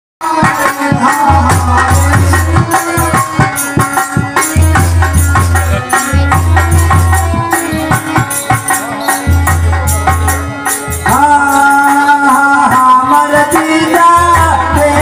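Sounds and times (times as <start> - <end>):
folk devotional music: 0.2 - 15.0
rattling percussion: 0.2 - 15.0
steady drumming: 0.2 - 15.0.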